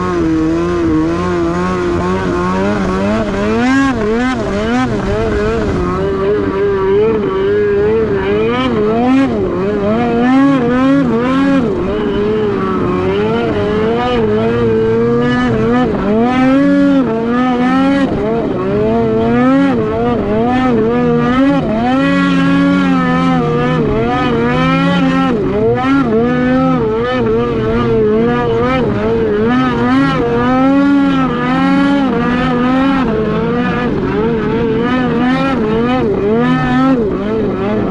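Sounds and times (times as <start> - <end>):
snowmobile engine revving: 0.0 - 37.9.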